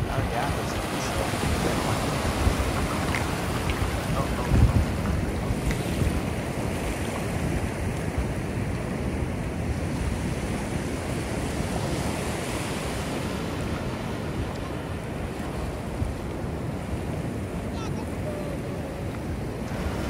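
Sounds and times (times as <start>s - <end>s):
ocean surf washing onto beach: 0.0s - 20.0s
wind buffeting microphone: 0.0s - 20.0s.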